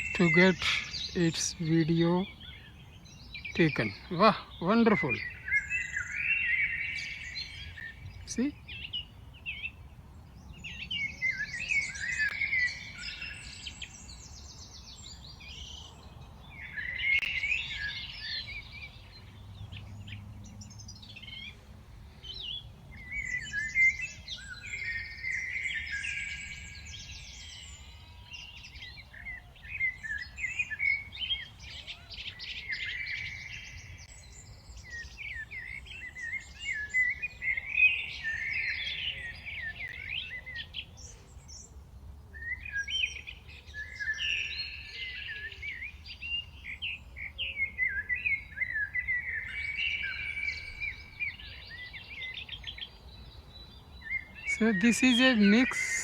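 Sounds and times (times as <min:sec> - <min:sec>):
small birds chirping in chorus: 0:00.0 - 0:56.0.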